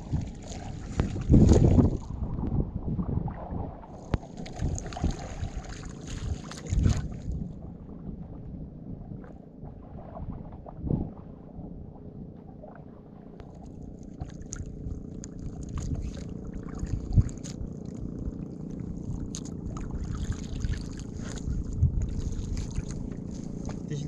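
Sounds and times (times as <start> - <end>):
water sloshing against canoe: 0.0 - 2.4, 3.8 - 24.0
wind rumbling on microphone: 0.0 - 24.0.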